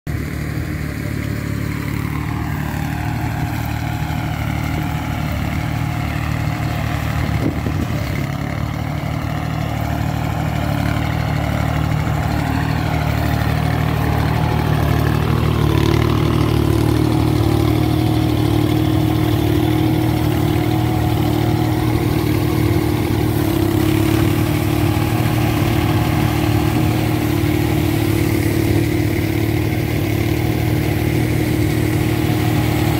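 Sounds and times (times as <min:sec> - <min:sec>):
thresher humming: 0:00.1 - 0:32.9
tractor diesel engine running: 0:00.1 - 0:32.9.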